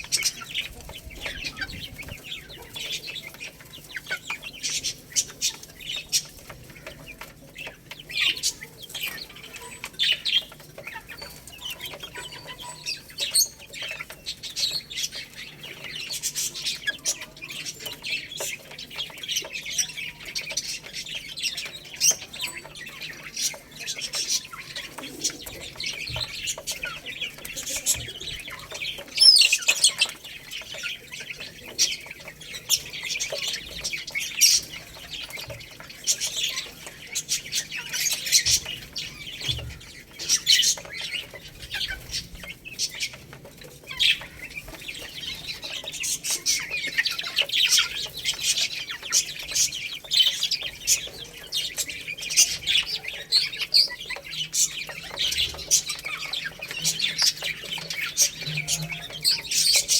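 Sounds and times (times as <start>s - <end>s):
baby chicks peeping: 0.0s - 59.9s.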